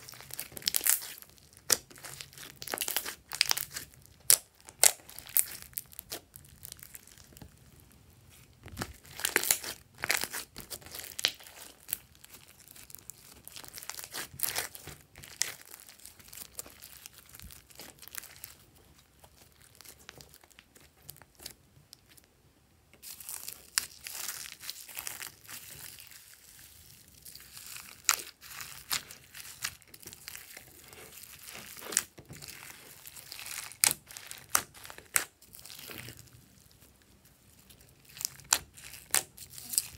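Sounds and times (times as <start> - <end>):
hands kneading sticky slime: 0.0 - 22.2, 23.0 - 39.9.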